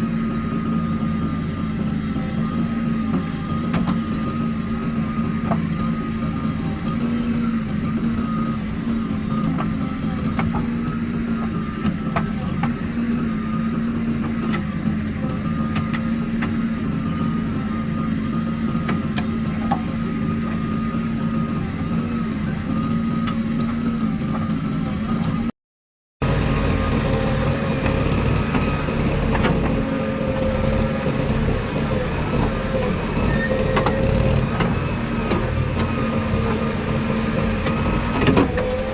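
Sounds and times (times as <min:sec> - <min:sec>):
diesel engine running: 0:00.0 - 0:25.5, 0:26.2 - 0:38.9.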